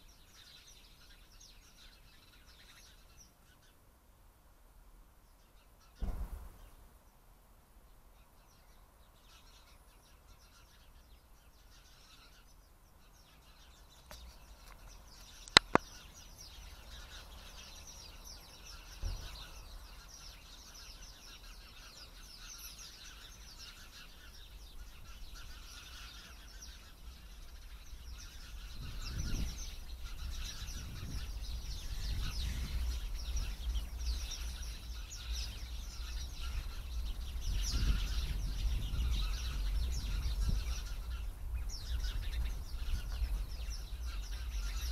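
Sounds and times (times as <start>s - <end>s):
small birds chirping: 0.0s - 4.0s, 5.1s - 44.9s.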